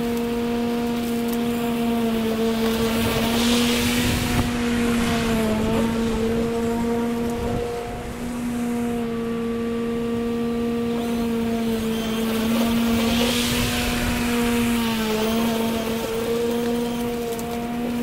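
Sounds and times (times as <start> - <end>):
push mower motor and blade hum: 0.0 - 18.0.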